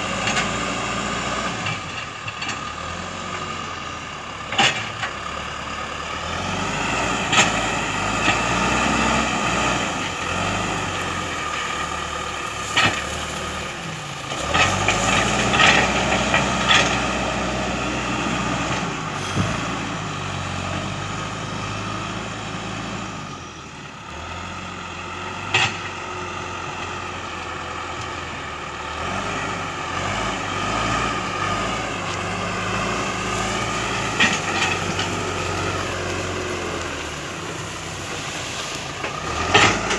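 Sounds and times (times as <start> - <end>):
backhoe diesel engine under load: 0.0 - 39.9.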